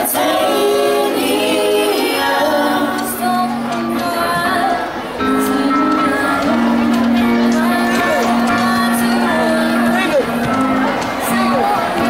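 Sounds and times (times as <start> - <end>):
women singing long held notes: 0.0 - 10.4
drums: 0.0 - 12.0
guitar: 0.0 - 12.0.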